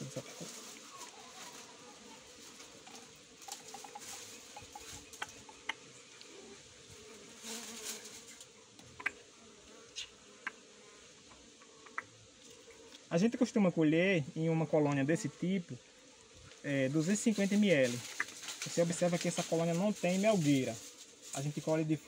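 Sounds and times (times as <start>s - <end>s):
faint buzzing of bees: 0.0s - 22.0s.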